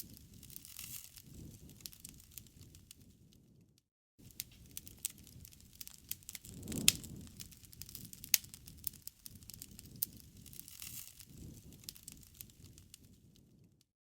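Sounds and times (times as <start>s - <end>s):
campfire crackling and popping: 0.0s - 3.5s, 4.2s - 13.8s
low rumble of flame: 0.0s - 13.8s.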